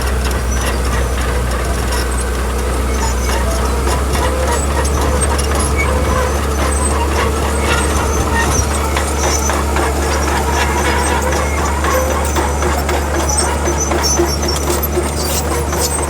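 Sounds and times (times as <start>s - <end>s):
diesel engine drone: 0.0s - 16.0s
machinery clanks and rattles: 0.0s - 16.0s.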